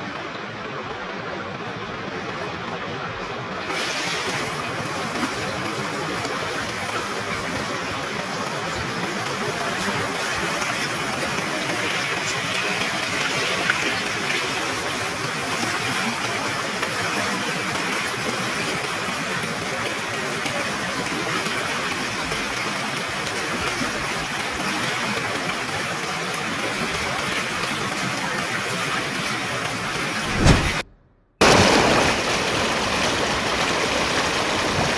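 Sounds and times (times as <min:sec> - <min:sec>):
rushing water: 0:00.0 - 0:30.8, 0:31.4 - 0:34.9.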